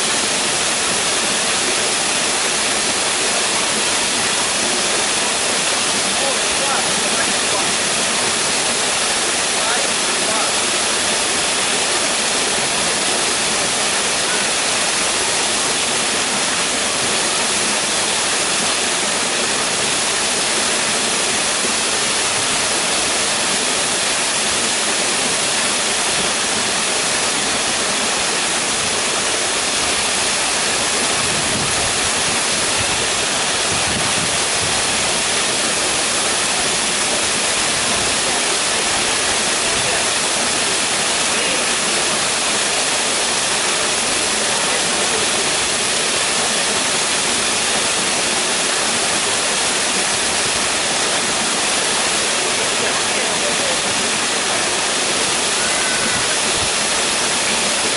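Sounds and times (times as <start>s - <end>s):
waterfall splashing into pond: 0.0s - 57.9s.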